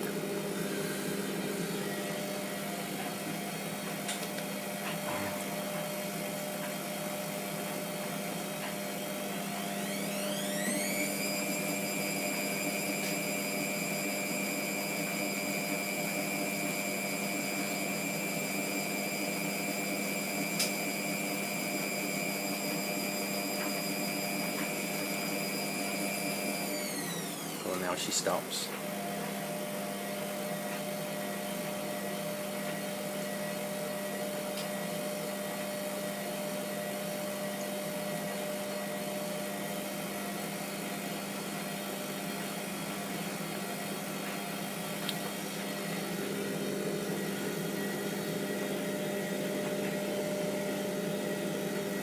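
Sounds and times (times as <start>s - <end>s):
washing machine humming: 0.0s - 52.0s
washing machine spin whine: 0.0s - 52.0s.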